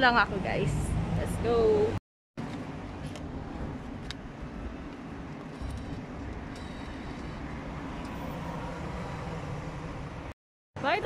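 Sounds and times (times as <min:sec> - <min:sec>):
low traffic hum: 0:00.0 - 0:11.0.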